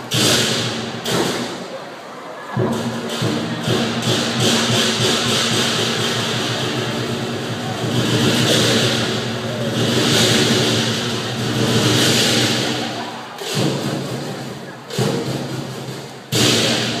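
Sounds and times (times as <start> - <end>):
drum: 0.0 - 1.7, 2.5 - 17.0.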